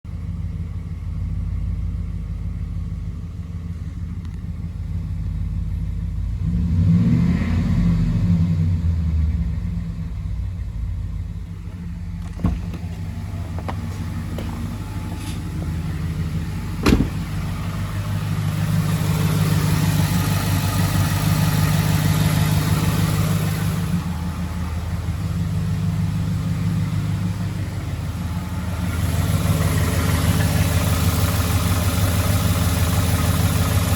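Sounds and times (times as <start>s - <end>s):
engine running and revving: 6.2s - 33.9s.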